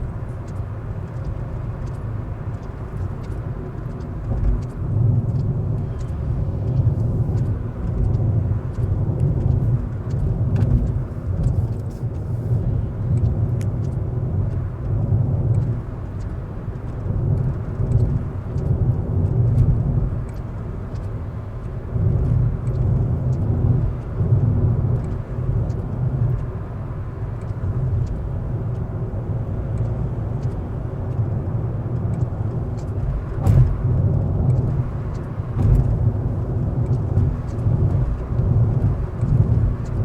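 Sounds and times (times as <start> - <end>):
road and drivetrain rumble: 0.0 - 40.0.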